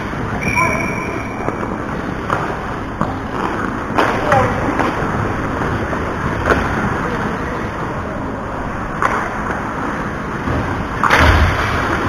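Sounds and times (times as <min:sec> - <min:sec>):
skating and rink noise: 0:00.0 - 0:12.0.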